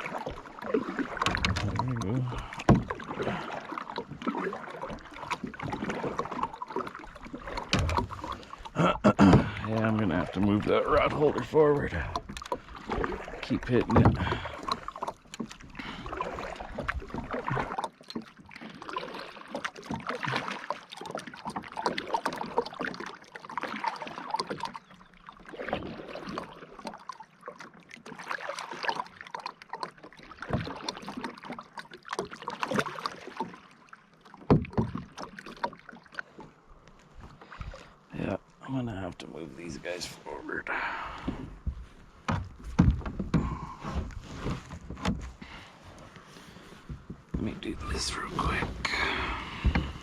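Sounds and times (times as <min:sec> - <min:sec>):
paddle splashing through water: 0:00.0 - 0:50.0.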